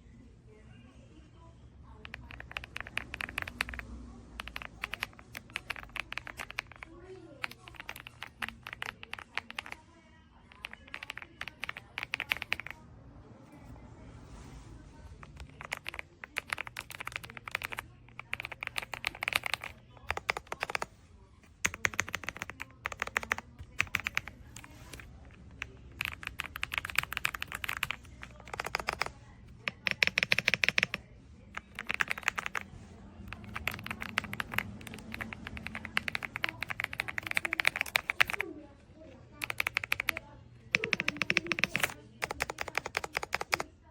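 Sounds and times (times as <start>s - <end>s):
mechanical keyboard typing: 2.0s - 9.8s, 10.5s - 12.8s, 15.0s - 20.9s, 21.6s - 38.4s, 39.4s - 43.7s.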